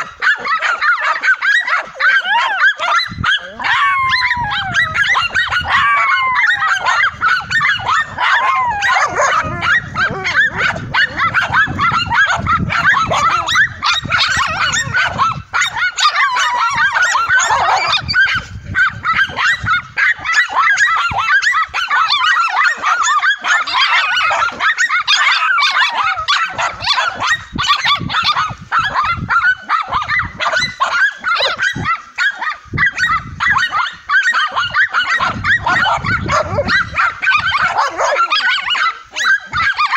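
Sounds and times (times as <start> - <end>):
dogs barking and yelping: 0.0 - 39.9.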